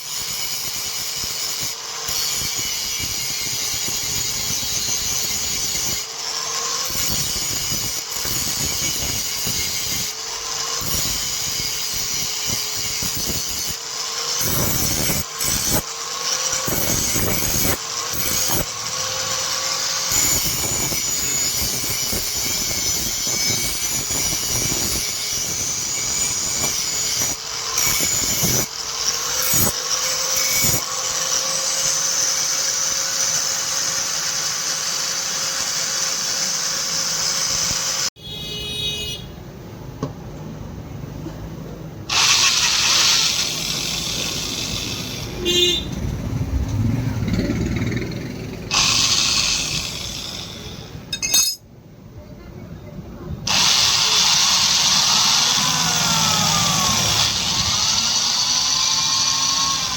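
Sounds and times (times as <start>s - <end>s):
electric grinder whining on steel: 0.0s - 38.1s, 42.1s - 51.6s, 53.5s - 59.9s.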